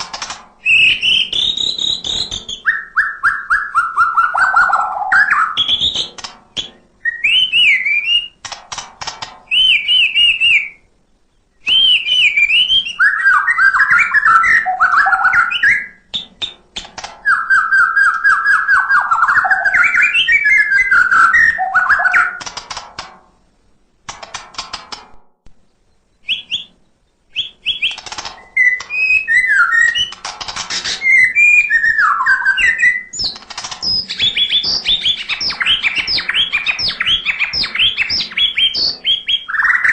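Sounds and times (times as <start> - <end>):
fast clicking bird chatter: 0.0 - 10.6, 12.1 - 23.3, 24.1 - 25.2, 27.4 - 39.9
bird whistling and warbling: 0.6 - 8.4, 9.5 - 10.9, 11.5 - 16.6, 17.2 - 22.5, 26.2 - 39.9.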